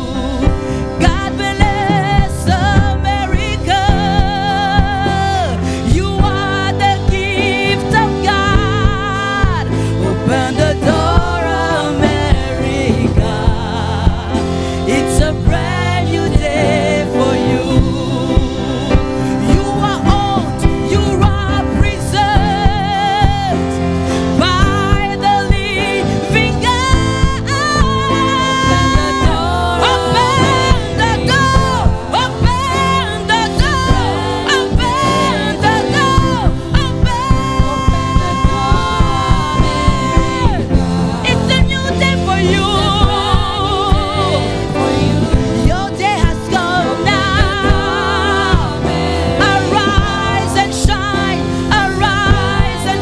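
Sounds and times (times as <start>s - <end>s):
band playing steady beat: 0.0s - 53.0s
woman singing with vibrato: 0.0s - 53.0s.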